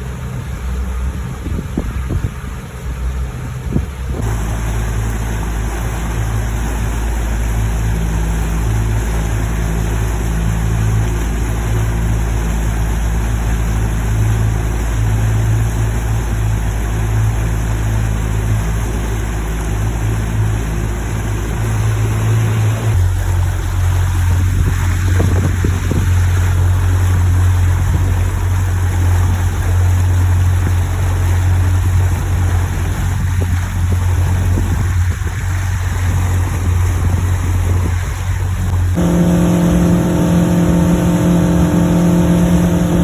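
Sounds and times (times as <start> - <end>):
outboard motor rumbling: 0.0 - 43.0.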